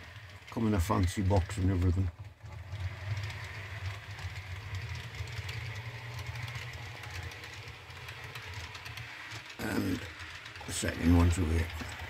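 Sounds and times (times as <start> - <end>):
model train motor whirring: 0.0 - 12.0
wheels clicking on track: 0.0 - 12.0.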